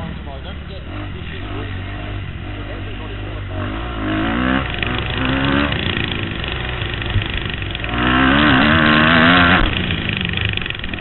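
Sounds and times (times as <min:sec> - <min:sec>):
motocross engine revving: 0:00.0 - 0:11.0.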